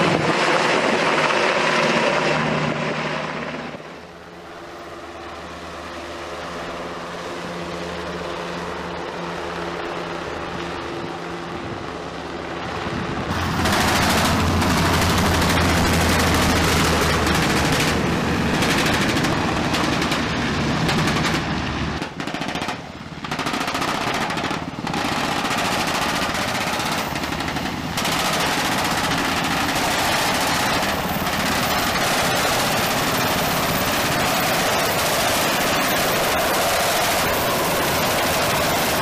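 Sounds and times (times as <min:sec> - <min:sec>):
helicopters flying low past: 0:00.0 - 0:39.0.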